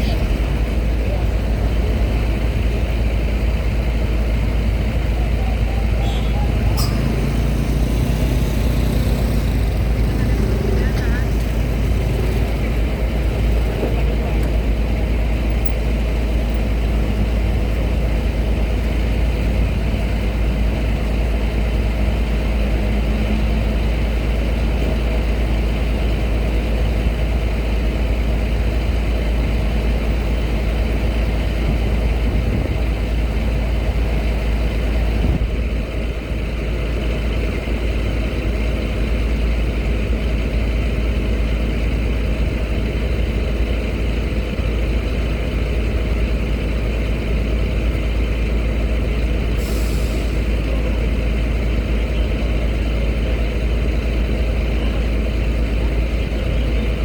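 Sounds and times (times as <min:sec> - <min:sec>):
heavy truck engines rumbling: 0:00.0 - 0:57.0.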